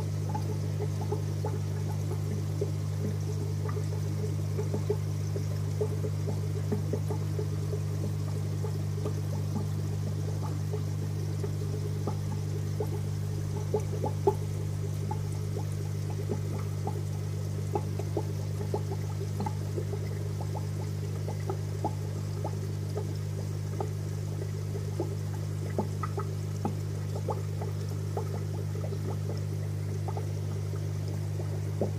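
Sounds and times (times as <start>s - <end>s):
aquarium filter bubbling: 0.0s - 31.9s
steady low hum: 0.0s - 31.9s.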